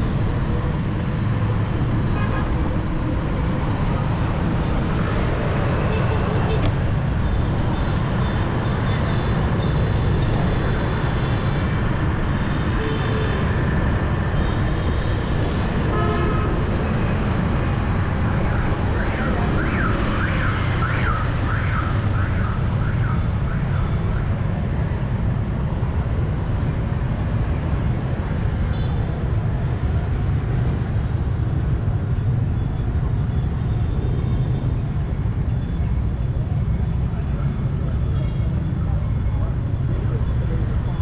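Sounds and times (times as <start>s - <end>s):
street traffic hum: 0.0s - 41.0s.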